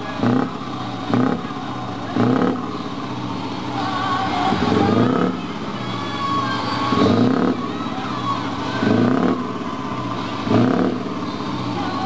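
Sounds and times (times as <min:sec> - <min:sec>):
truck engine idling and revving: 0:00.0 - 0:12.0.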